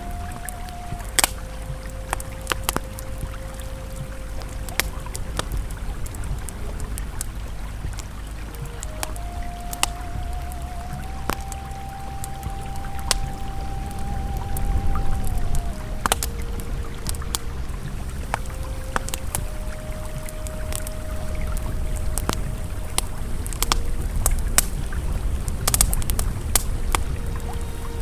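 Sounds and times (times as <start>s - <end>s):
campfire crackling: 0.0s - 28.0s
river flowing: 0.0s - 28.0s
soft ambient tones: 0.0s - 28.0s.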